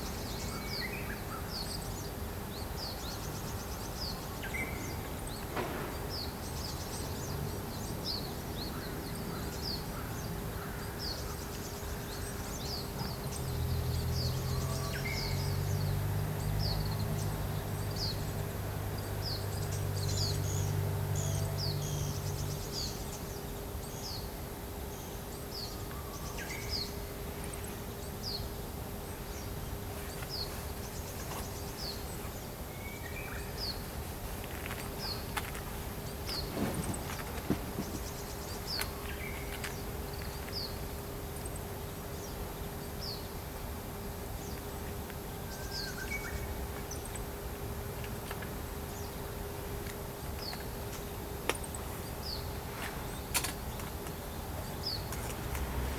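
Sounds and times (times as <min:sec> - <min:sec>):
outdoor background noise: 0:00.0 - 0:55.9.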